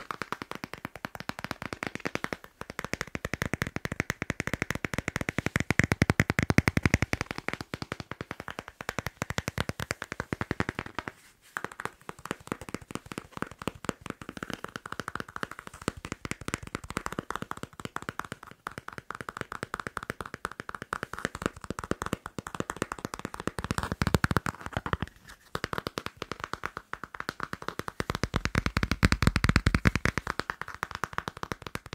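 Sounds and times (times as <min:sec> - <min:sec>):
fingers tapping and scratching: 0:00.0 - 0:31.9.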